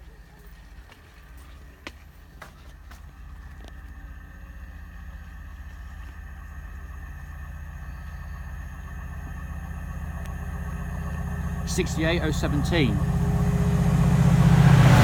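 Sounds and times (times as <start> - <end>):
diesel locomotive engine drone: 0.0 - 15.0.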